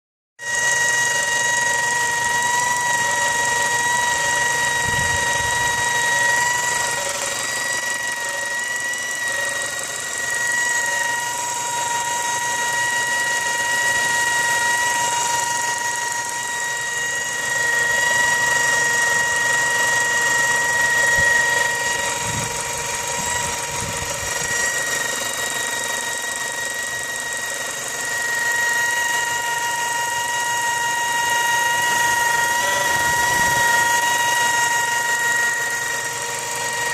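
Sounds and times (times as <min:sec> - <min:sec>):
steady high-pitched whine: 0:00.4 - 0:36.9.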